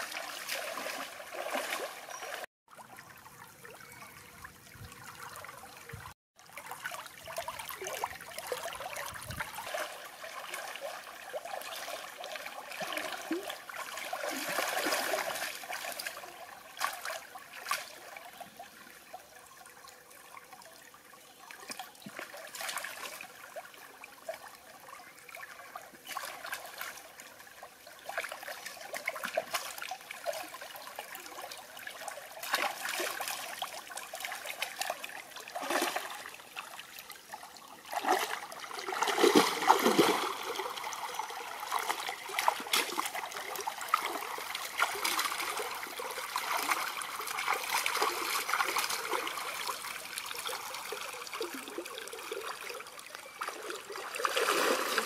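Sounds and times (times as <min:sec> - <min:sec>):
water splashing from wading: 0:00.0 - 0:03.8, 0:04.4 - 0:18.2, 0:28.0 - 0:55.0
stream trickling: 0:00.0 - 0:55.0.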